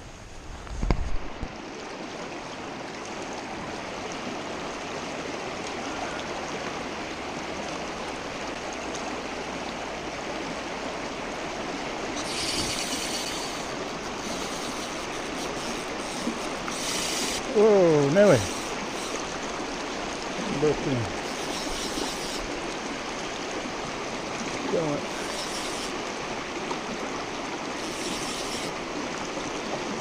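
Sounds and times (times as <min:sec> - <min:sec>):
stream rushing over stones: 0:00.1 - 0:30.0.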